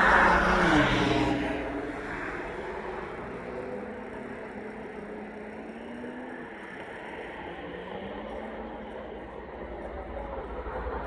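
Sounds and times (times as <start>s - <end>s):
passing vehicle engine: 0.0s - 9.4s.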